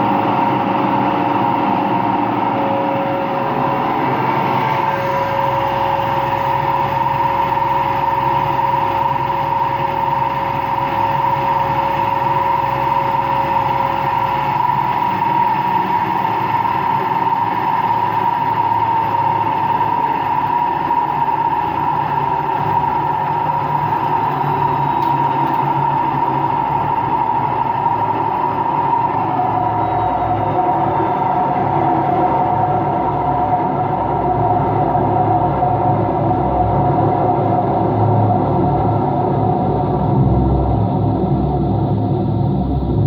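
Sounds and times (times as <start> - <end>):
lower tone: 0.0 - 17.0, 19.0 - 43.0
washing machine spinning: 0.0 - 40.6.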